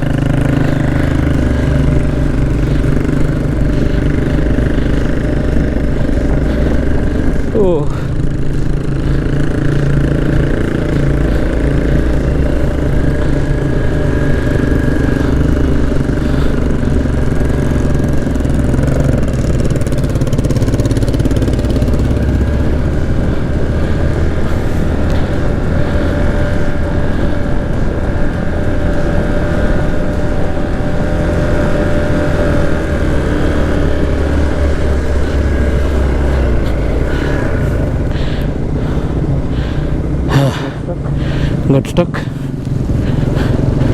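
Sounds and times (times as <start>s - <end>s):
motorcycle engine rumbling: 0.0s - 43.9s.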